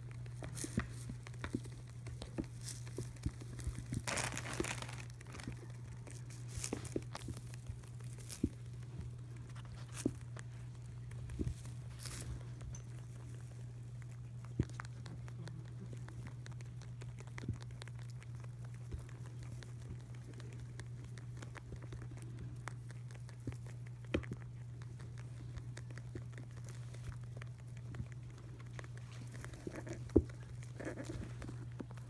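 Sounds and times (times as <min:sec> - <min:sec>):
rabbits munching hay: 0:00.0 - 0:32.0.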